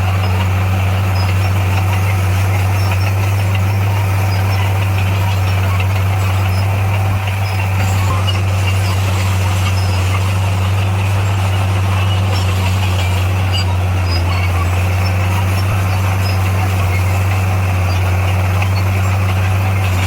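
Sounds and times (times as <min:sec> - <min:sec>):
diesel engine running steadily: 0:00.0 - 0:20.0.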